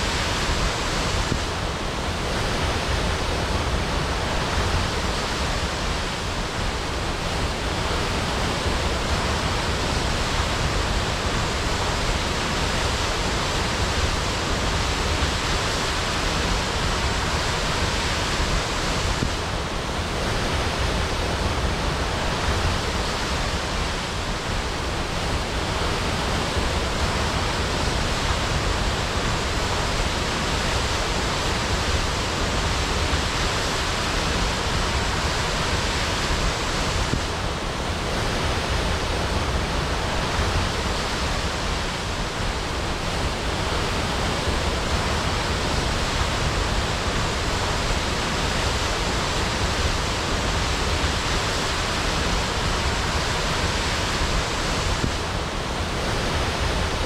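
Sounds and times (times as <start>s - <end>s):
waterfall crashing: 0.0s - 57.0s.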